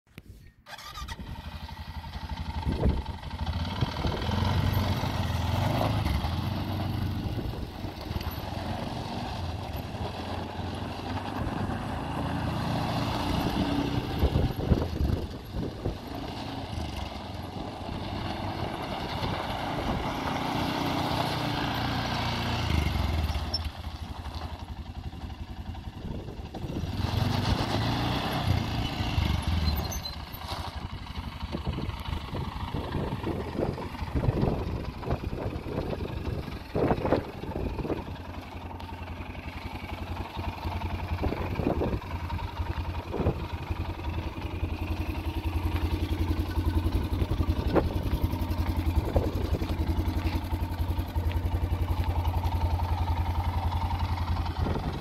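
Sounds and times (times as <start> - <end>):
atv engine running: 0.7 - 55.0.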